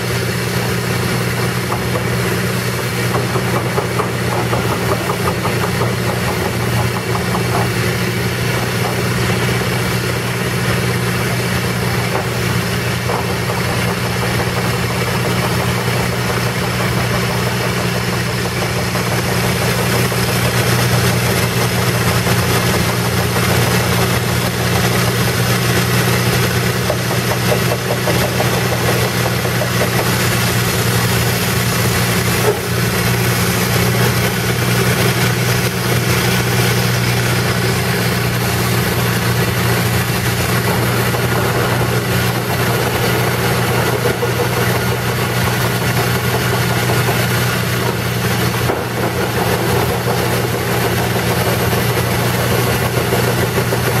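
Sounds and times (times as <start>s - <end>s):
pneumatic drilling rig running: 0.0s - 54.0s.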